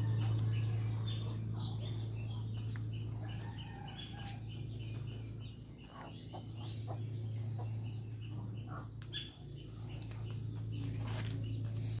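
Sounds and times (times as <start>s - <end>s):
chickens clucking: 0.0s - 12.0s
low hum: 0.0s - 12.0s.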